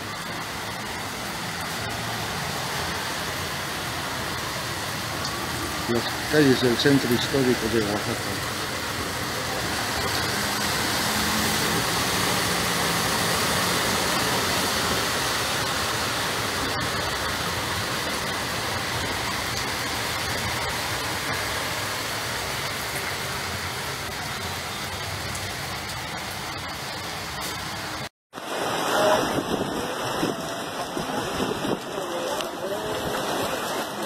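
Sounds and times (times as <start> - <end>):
heavy rain with hail: 0.0 - 34.0
running water: 0.0 - 34.0.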